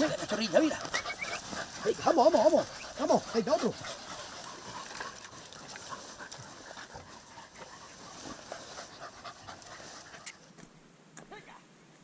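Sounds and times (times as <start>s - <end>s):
dogs panting hard: 0.0s - 10.6s.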